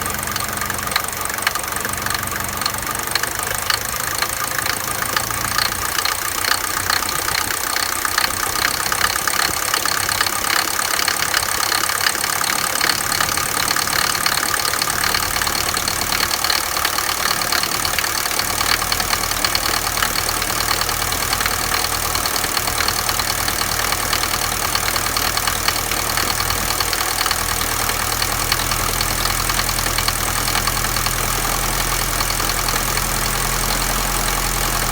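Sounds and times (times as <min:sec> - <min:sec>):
diesel engine idling: 0:00.0 - 0:34.9
rhythmic engine knock: 0:00.0 - 0:34.9.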